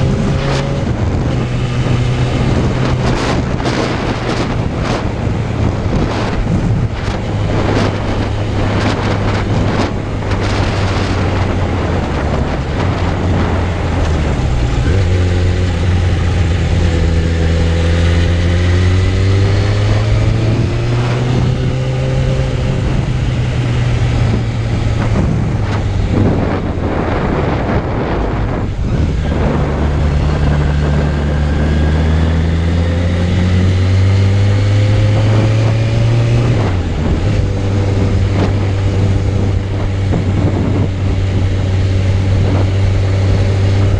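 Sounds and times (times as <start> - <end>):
motorcycle engine accelerating: 0.0 - 43.9
wind buffeting microphone: 0.0 - 43.9.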